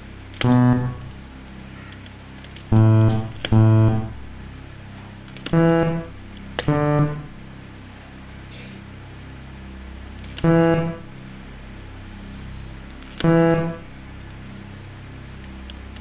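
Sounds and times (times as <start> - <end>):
buzzy electronic notes: 0.0 - 1.8, 2.6 - 8.3, 9.3 - 14.9.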